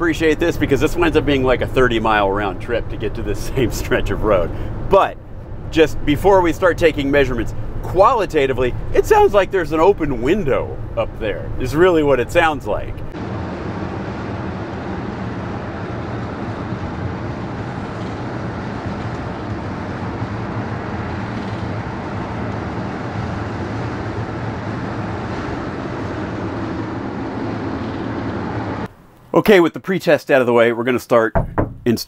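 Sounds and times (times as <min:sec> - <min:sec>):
low engine drone: 0:00.0 - 0:29.2
road noise inside vehicle: 0:00.0 - 0:29.4.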